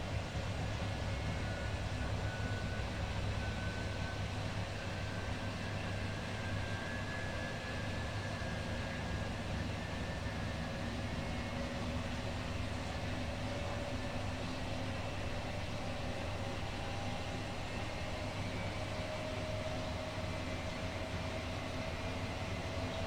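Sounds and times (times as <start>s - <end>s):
faint motor whine: 0.0s - 23.0s
washing machines spinning: 0.0s - 23.0s.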